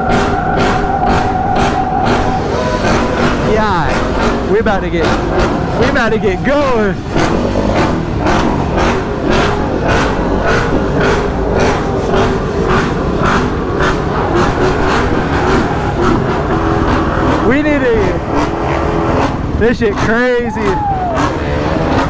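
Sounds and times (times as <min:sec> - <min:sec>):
loud car engines and exhaust: 0:00.0 - 0:22.0.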